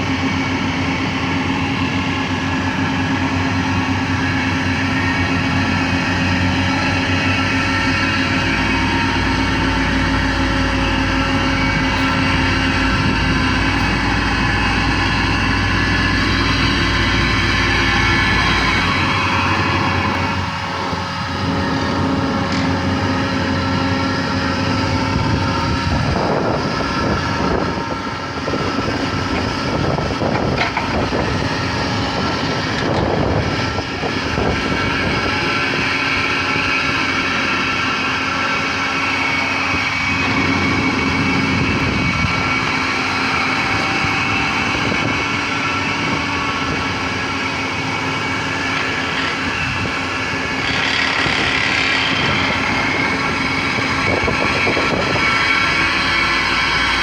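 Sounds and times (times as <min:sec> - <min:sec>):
excavator engine hum: 0:00.0 - 0:57.0
hydraulic compactor working: 0:00.0 - 0:57.0.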